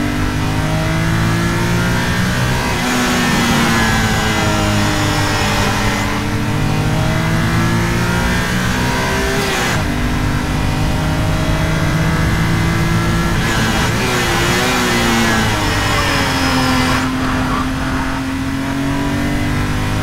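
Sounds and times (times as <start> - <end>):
car engine pulling hard: 0.0 - 20.0.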